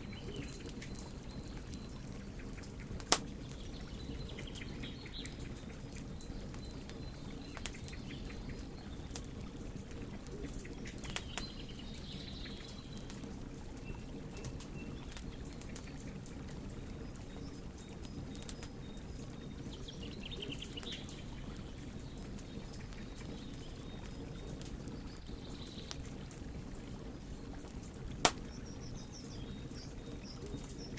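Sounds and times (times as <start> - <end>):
fire low rumble: 0.0 - 30.9
wood fire crackling and popping: 0.0 - 30.9.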